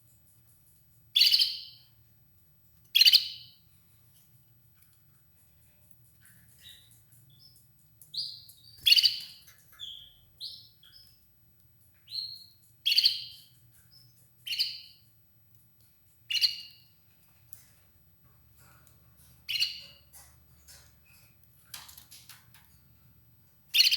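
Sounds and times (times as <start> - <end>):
canary chirping: 0.0 - 23.9.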